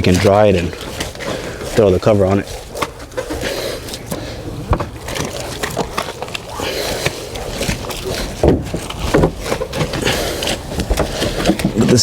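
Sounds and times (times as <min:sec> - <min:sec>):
wiping and rubbing: 0:00.0 - 0:12.0.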